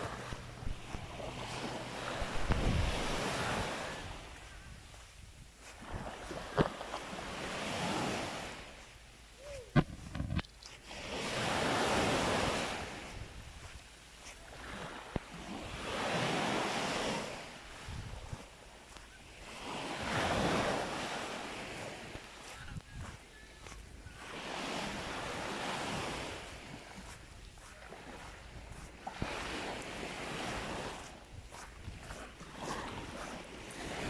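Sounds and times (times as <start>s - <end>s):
waves breaking on a beach: 0.0s - 34.0s.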